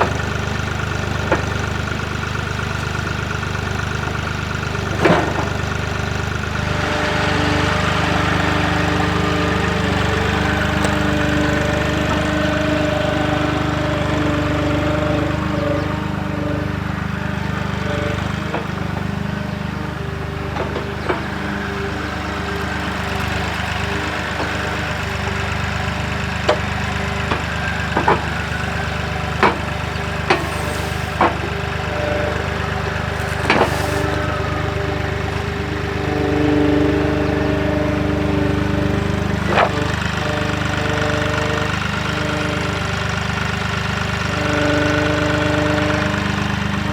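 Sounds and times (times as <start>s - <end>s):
loader diesel engine running: 0.0s - 46.9s.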